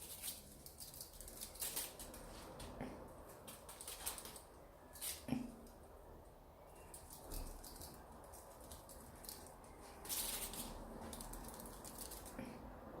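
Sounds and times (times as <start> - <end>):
kitten claws scratching surface: 0.0 - 5.3, 6.8 - 12.4.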